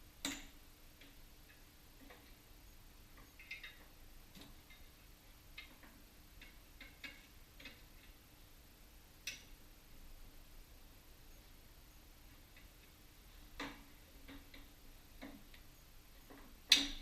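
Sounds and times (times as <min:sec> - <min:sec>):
quiet steady hum: 0:00.0 - 0:17.0.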